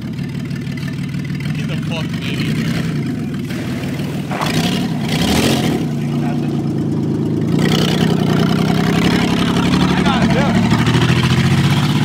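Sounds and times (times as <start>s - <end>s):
gravel and tyre noise: 0.0s - 12.0s
minivan engine revving: 0.0s - 12.0s.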